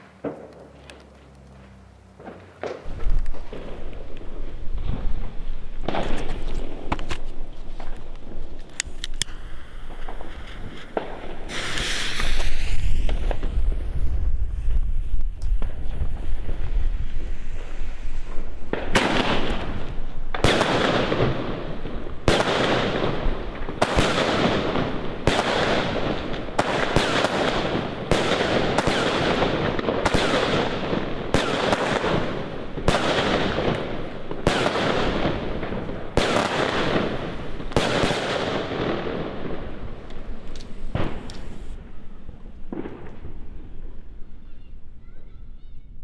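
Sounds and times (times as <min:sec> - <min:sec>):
firework shots firing: 0:00.0 - 0:07.2, 0:07.8 - 0:41.8.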